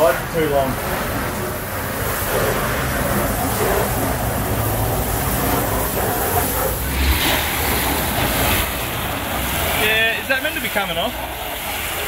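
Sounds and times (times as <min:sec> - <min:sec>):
garden hose spraying water on car: 0:00.0 - 0:12.0.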